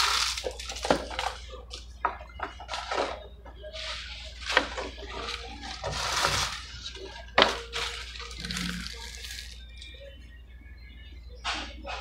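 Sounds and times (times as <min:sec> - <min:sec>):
paper and foil wrappers rustling: 0:00.0 - 0:10.0.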